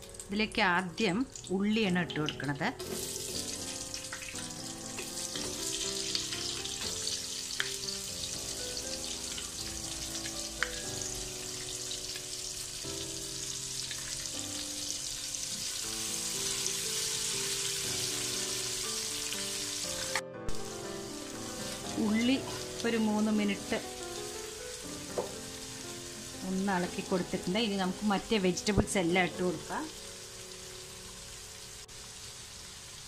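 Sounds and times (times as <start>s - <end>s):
onions sizzling in hot oil: 0.0s - 33.0s.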